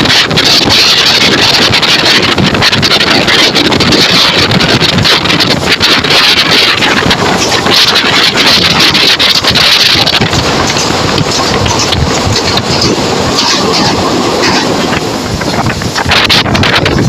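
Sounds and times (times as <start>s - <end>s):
train rumbling: 0.0s - 17.0s
wheels clattering on rails: 0.0s - 17.0s
wind noise on microphone: 0.0s - 17.0s.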